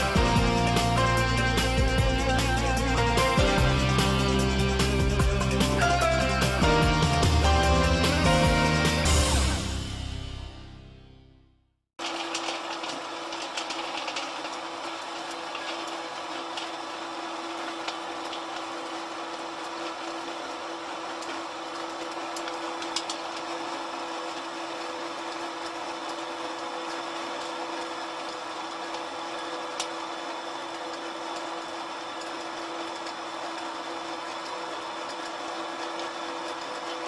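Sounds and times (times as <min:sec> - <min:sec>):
pellet mill motor humming: 0:00.0 - 0:10.1, 0:12.0 - 0:37.0.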